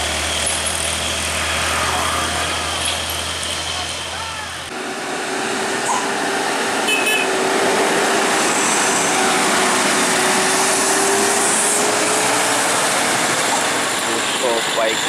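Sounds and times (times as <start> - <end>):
truck diesel engine pulling hard: 0.0 - 15.0.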